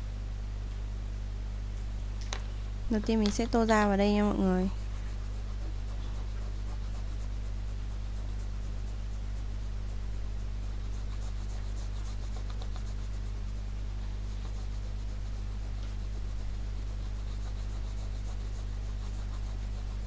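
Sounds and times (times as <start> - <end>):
low electrical hum: 0.0 - 20.0
pen rubbing on paper: 3.6 - 20.0.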